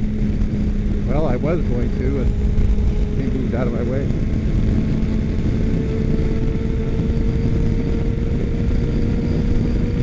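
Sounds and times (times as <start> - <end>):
motorcycle engine: 0.0 - 10.0
wind and road noise: 0.0 - 10.0.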